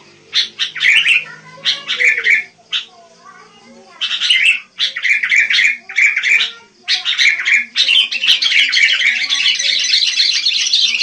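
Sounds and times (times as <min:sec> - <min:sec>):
bulbuls chattering calls: 0:00.0 - 0:11.0.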